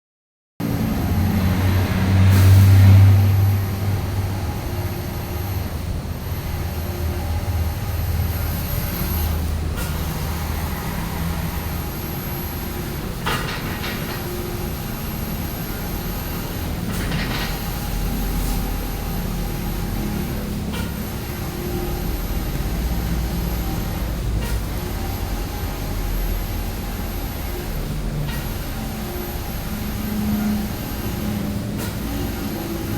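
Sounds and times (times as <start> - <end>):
air conditioner unit humming: 2.9 - 32.9.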